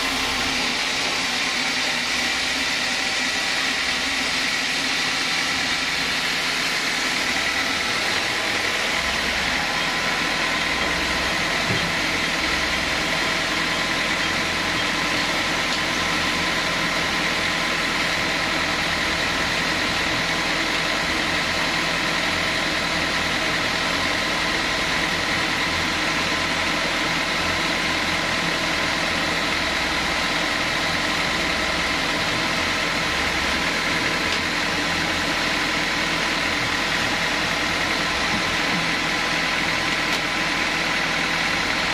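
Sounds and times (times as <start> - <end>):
band sawmill running: 0.0 - 41.9
high mechanical whine: 0.0 - 41.9.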